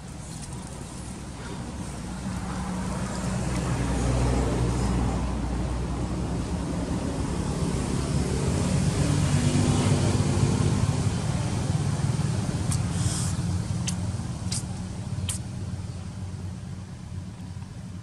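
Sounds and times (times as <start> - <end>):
passing vehicle engine rumble: 0.0 - 18.0.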